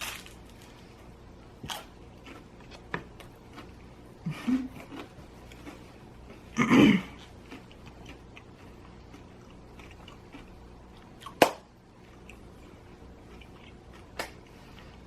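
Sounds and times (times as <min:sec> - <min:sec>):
chewing crispy pizza: 0:00.0 - 0:15.0.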